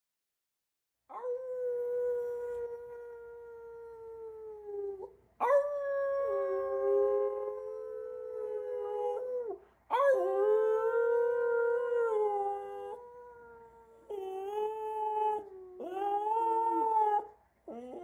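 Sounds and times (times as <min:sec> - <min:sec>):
dog howling: 0:01.1 - 0:18.0.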